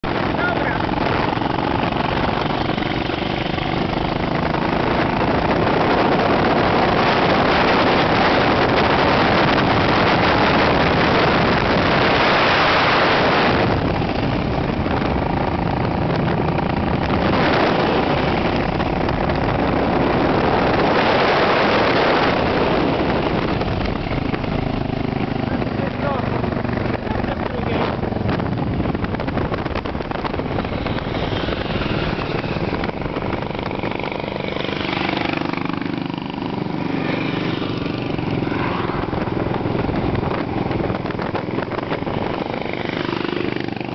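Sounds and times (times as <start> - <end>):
motorcycle engines: 0.0 - 43.9
wind rushing on microphone: 0.0 - 43.9.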